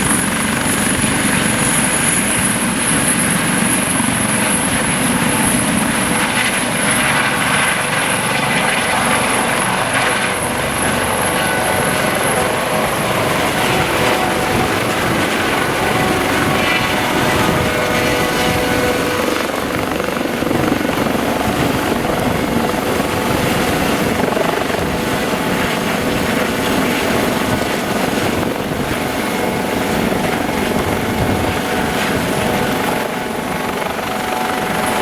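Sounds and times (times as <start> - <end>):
helicopter rotor noise: 0.0 - 35.0
high turbine whine: 0.0 - 35.0.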